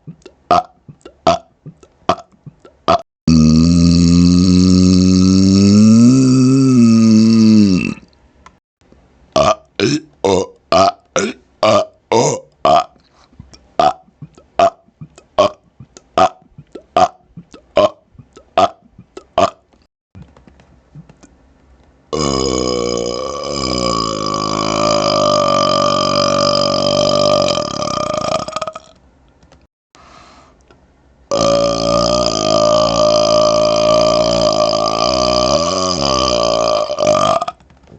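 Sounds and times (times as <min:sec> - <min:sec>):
man burping: 0:00.0 - 0:08.1, 0:09.4 - 0:13.0, 0:13.8 - 0:19.7, 0:22.1 - 0:28.9, 0:31.3 - 0:37.6.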